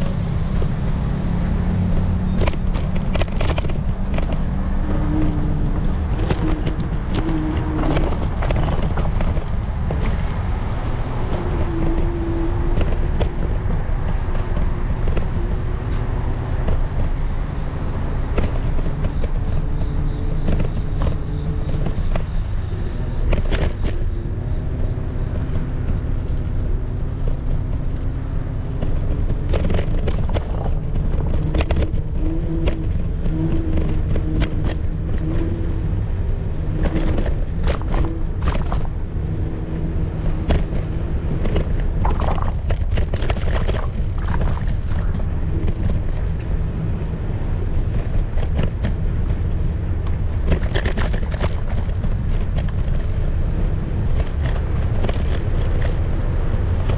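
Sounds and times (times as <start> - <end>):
scooter wheels rumbling on bricks: 0.0 - 17.1, 17.9 - 56.9.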